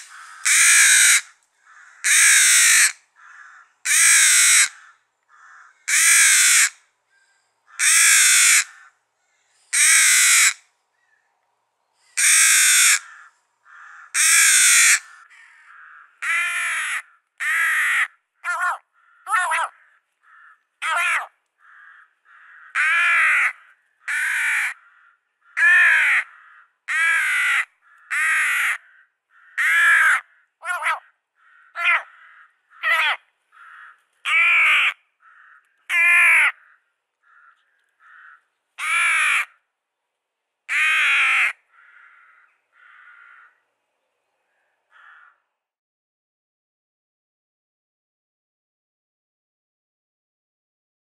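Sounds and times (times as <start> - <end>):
bird harsh caws: 0.0 - 6.8, 7.6 - 11.1, 12.1 - 39.7, 40.7 - 43.6, 44.9 - 45.5.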